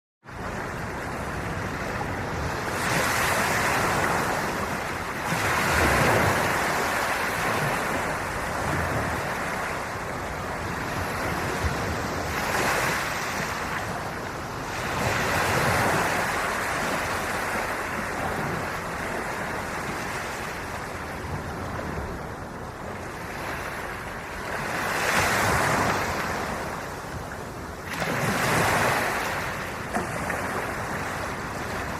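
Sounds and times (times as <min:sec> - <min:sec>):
waves breaking on a beach: 0:00.3 - 0:31.9.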